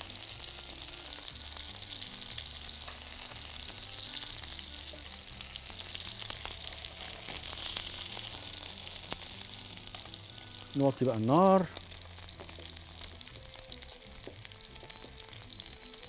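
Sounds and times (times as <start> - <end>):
chicken skin sizzling in fat: 0.0 - 16.0.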